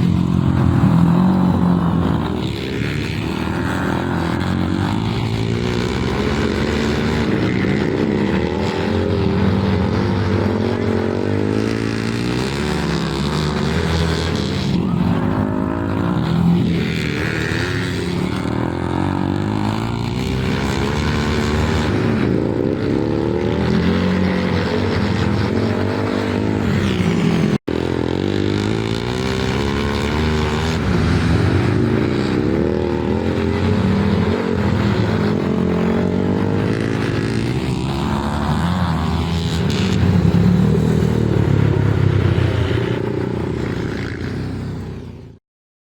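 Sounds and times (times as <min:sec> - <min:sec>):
motorcycle engines revving: 0:00.0 - 0:45.4.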